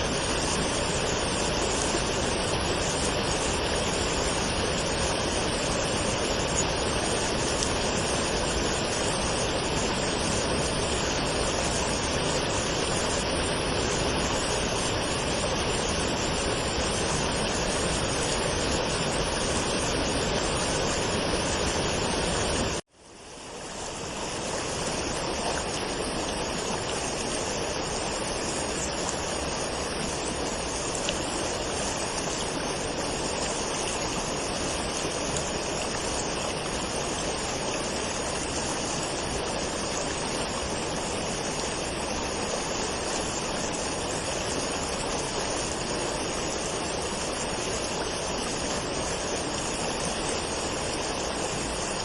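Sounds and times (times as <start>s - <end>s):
waterfall rushing: 0.0s - 22.8s, 23.5s - 52.0s.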